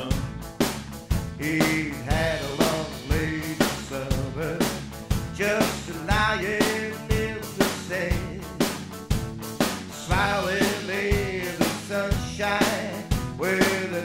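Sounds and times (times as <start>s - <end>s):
rock and roll band music: 0.0s - 14.0s.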